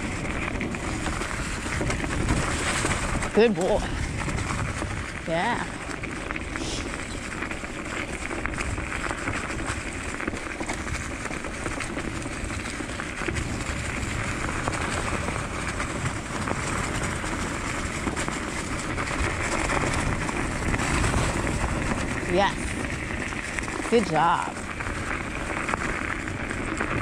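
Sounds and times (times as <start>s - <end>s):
scooter tyres crunching leaves and snow: 0.0s - 27.0s.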